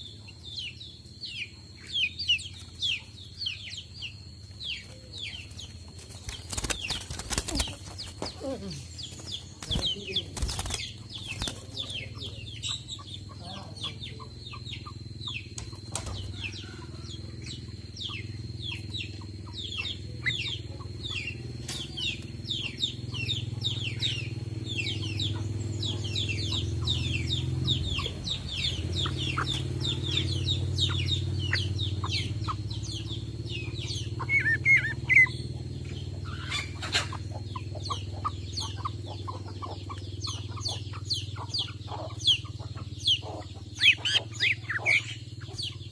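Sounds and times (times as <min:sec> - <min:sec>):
bird singing: 0:00.0 - 0:45.9.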